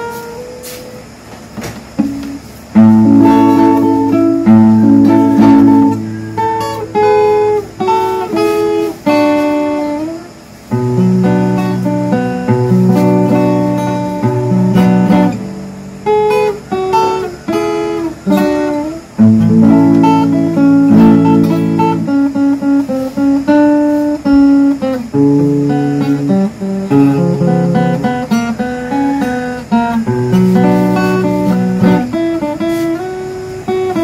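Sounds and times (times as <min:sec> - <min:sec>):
fingerstyle acoustic guitar: 0:00.0 - 0:34.0.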